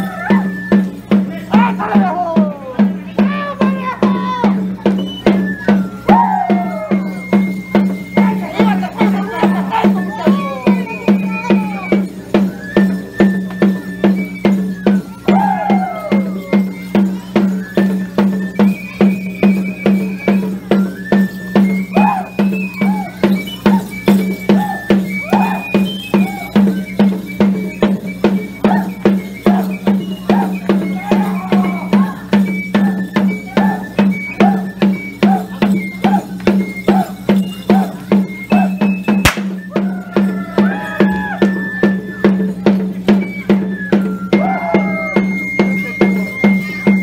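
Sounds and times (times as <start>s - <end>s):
high flute melody: 0.0s - 2.2s, 3.2s - 47.0s
bells clanking: 0.0s - 47.0s
steady drum beat: 0.0s - 47.0s.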